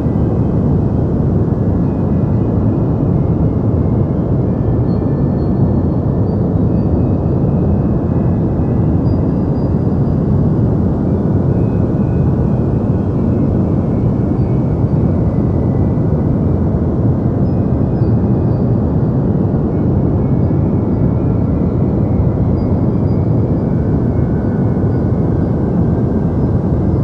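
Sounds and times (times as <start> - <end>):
deep white noise rumble: 0.0 - 27.0.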